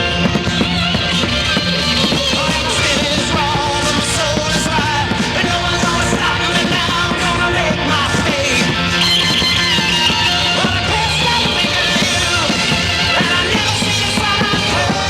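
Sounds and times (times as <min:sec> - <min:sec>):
loud rock music with singing: 0:00.0 - 0:15.0.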